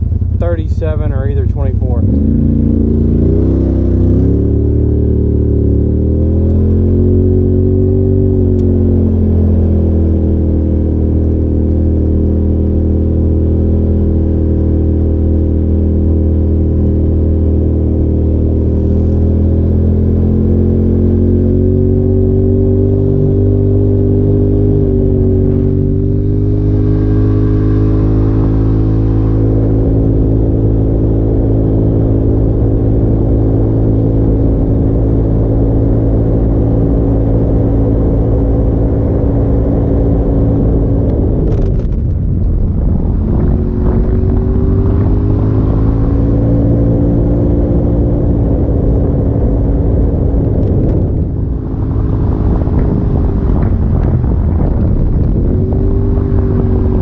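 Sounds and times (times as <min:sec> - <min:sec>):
turbocharged engine revving: 0:00.0 - 0:57.0.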